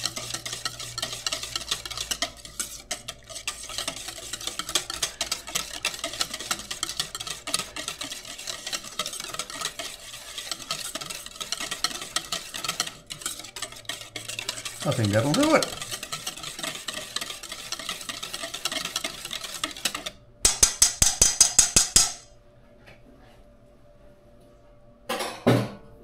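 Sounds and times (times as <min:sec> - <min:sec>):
whisk scraping a metal bowl: 0:00.0 - 0:22.3.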